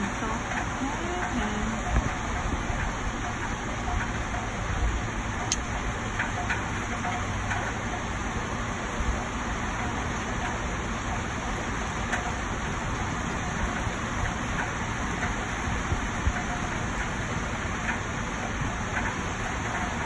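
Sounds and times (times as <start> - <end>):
heavy rain on foliage: 0.0 - 20.0.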